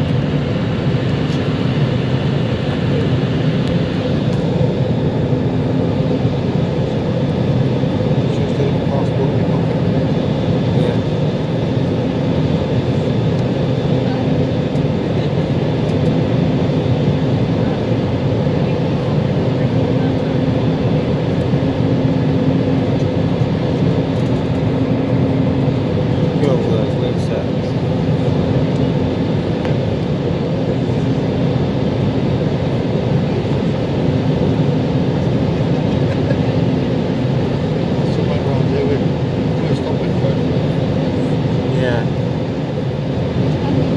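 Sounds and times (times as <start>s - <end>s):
jet engine cabin drone: 0.0s - 43.9s.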